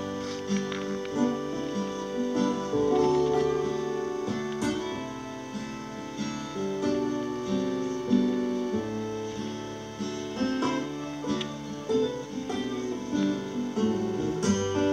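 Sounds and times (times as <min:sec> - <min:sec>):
acoustic guitar playing chords: 0:00.0 - 0:14.9.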